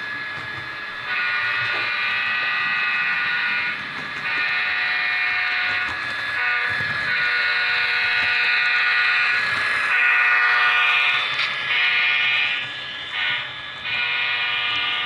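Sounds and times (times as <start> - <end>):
locomotive air horn blasts: 1.0 - 15.0.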